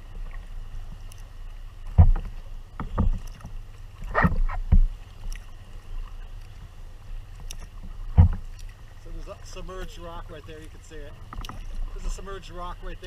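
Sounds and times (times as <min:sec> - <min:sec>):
paddle splashes and thumps: 0:00.0 - 0:13.0.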